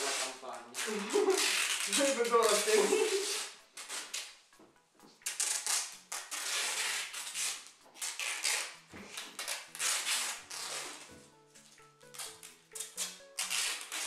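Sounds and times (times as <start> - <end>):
adhesive tape ripping off roll: 0.0 - 4.4, 5.2 - 11.2, 12.1 - 14.0.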